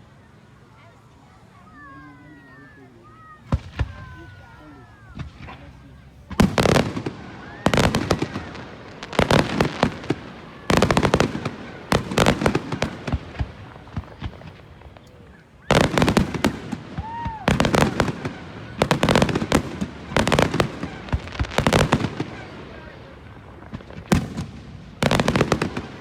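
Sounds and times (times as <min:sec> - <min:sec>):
fireworks bangs and crackles: 0:03.2 - 0:26.0.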